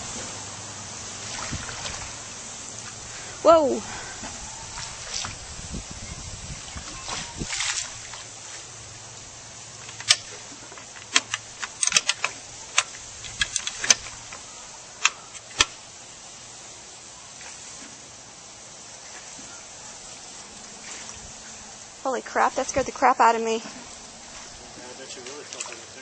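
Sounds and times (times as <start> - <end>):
pool water sloshing: 0.0 - 26.0.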